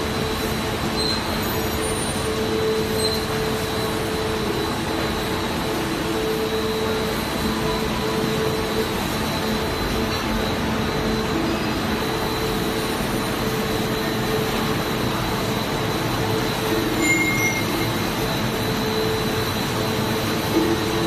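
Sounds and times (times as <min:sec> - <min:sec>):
industrial machinery running: 0:00.0 - 0:21.0
machine squeal: 0:00.0 - 0:21.0.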